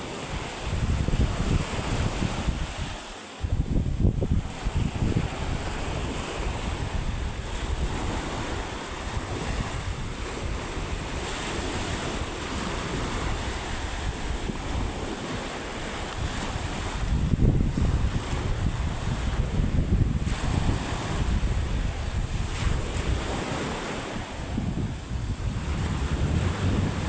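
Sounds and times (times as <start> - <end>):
surf breaking on shore: 0.0 - 27.0
wind buffeting microphone: 0.0 - 27.0.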